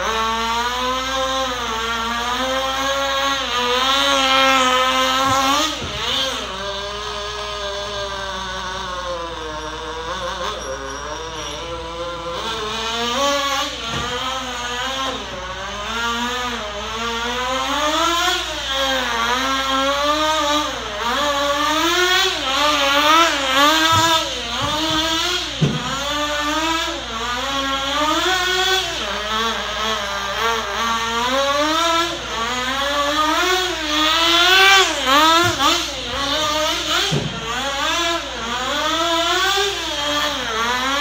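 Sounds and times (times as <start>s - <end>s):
small nitro engine revving: 0.0s - 41.0s.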